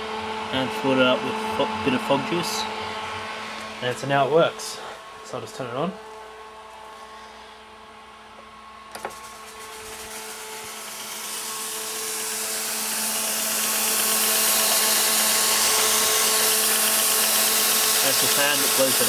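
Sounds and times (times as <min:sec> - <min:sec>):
fog machine fan hiss: 0:00.0 - 0:19.0
steady hum: 0:00.0 - 0:19.0.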